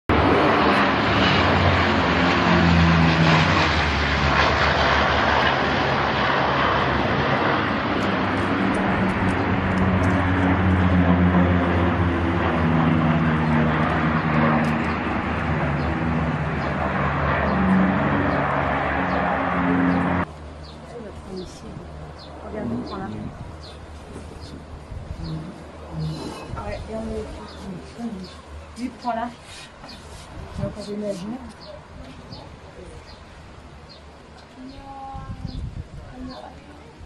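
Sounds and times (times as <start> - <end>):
propeller planes droning overhead: 0.1 - 37.0.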